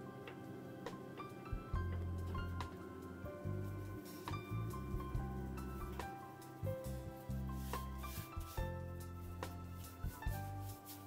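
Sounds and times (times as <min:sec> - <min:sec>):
background music with bass notes: 0:00.0 - 0:11.0.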